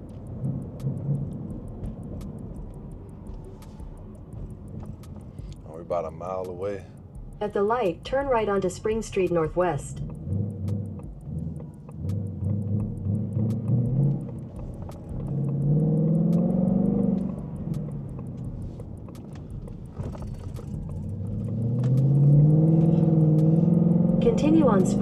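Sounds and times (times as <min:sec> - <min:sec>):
car engine rumbling and accelerating: 0:00.0 - 0:25.0.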